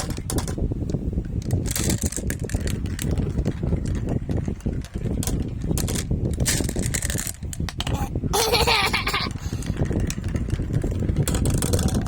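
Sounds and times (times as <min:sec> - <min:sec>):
marbles clicking and clacking: 0:00.0 - 0:12.0
marbles rolling on a track: 0:00.0 - 0:12.0.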